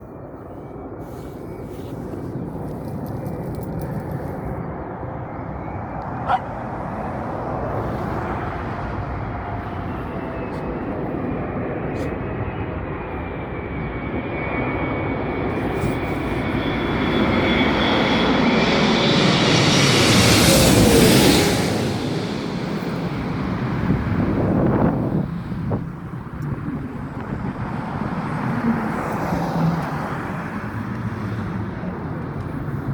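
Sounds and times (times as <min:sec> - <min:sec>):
jet airliner approaching: 0:00.0 - 0:32.9.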